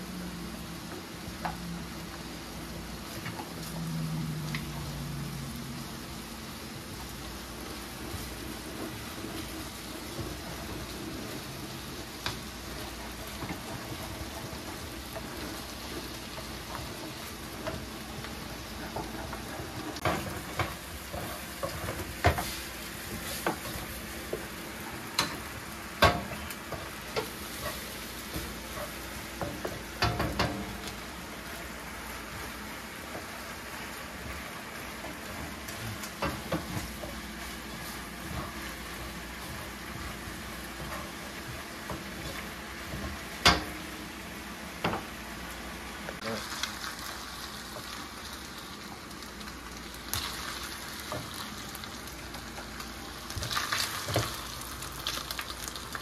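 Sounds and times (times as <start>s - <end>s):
stir fry sizzling in a pan: 0.0s - 56.0s.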